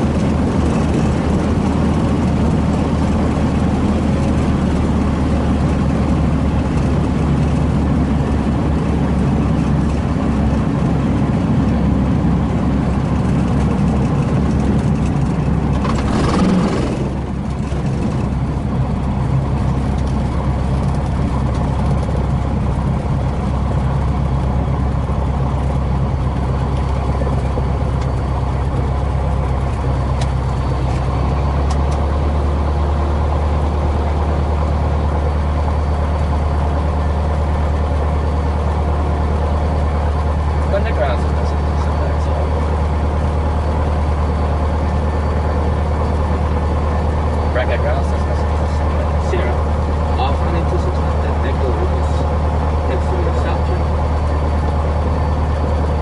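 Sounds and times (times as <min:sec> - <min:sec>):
airplane engine and propeller: 0:00.0 - 0:56.0.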